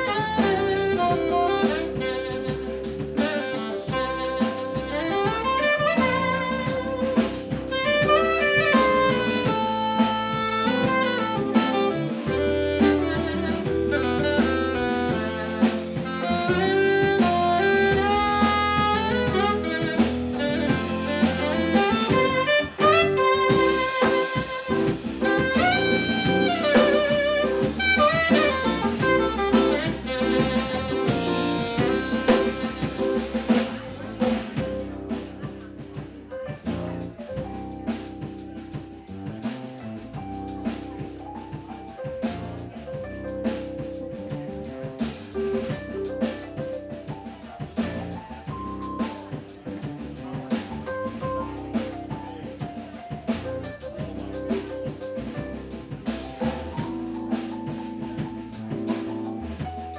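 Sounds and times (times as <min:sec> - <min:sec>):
alto saxophone melody: 0:00.0 - 0:59.9
drum kit: 0:00.0 - 0:59.9
electric bass: 0:00.0 - 0:59.9
keyboard: 0:00.0 - 0:59.9.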